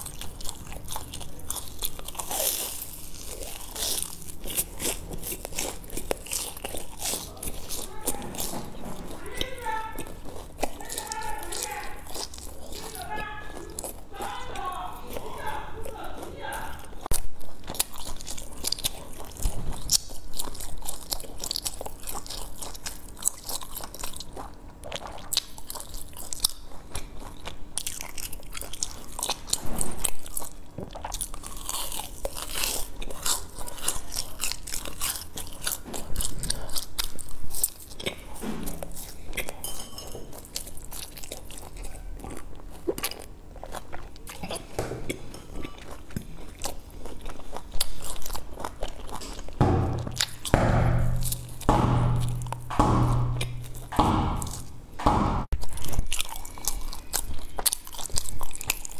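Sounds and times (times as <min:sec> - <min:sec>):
crunching and chewing snacks: 0:00.0 - 0:54.8, 0:55.6 - 0:58.9.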